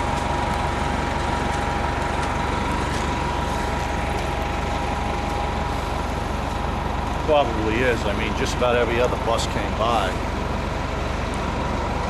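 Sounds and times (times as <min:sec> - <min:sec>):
bus diesel engine running: 0:00.0 - 0:12.0
steady whine: 0:00.0 - 0:12.0
street noise: 0:00.0 - 0:12.0.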